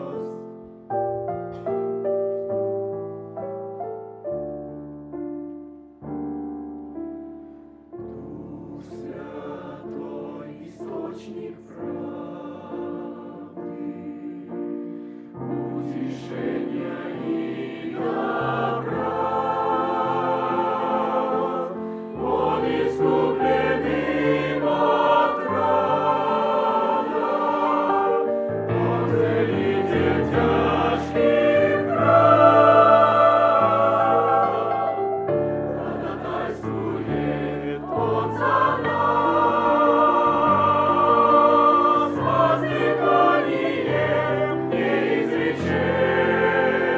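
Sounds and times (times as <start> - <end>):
choir singing a hymn: 0.0 - 2.0, 8.0 - 46.9.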